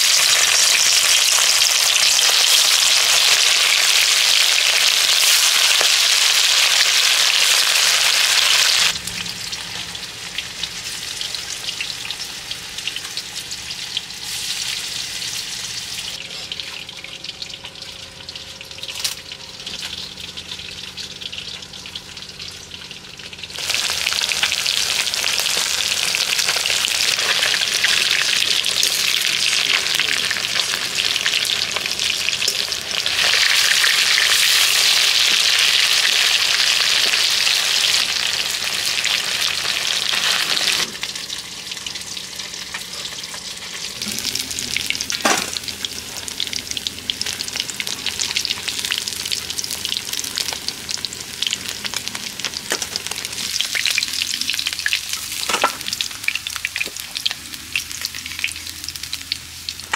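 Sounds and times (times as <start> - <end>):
fish frying in hot oil: 0.0 - 59.9.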